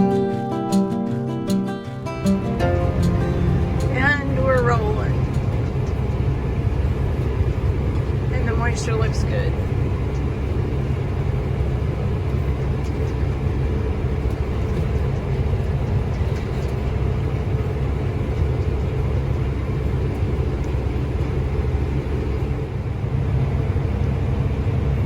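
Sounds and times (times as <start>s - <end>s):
combine harvester engine rumble: 2.2s - 25.0s.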